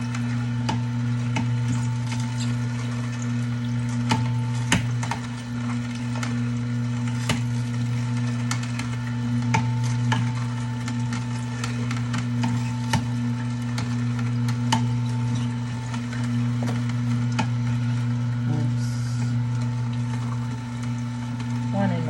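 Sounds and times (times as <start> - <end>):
juicer motor humming: 0.0 - 22.0.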